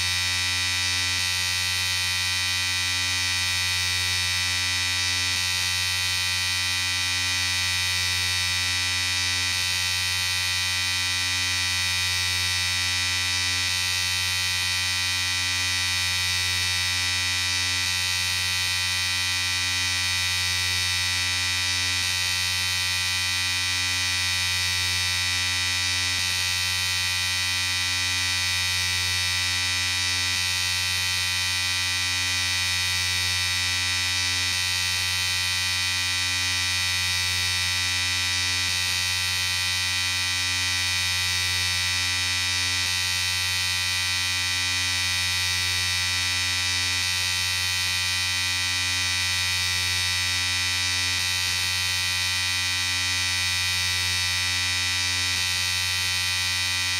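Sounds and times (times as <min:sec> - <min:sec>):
electric shaver buzzing: 0:00.0 - 0:56.9.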